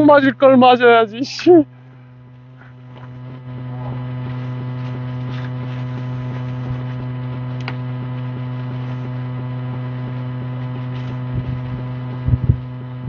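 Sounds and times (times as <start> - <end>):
low hum with overtones: 0.0 - 13.0.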